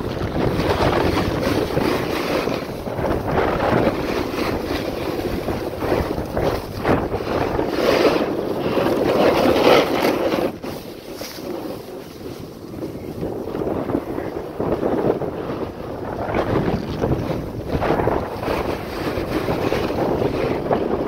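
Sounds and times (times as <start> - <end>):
sliding on packed snow: 0.0 - 21.0
wind rushing over microphone: 0.0 - 21.0.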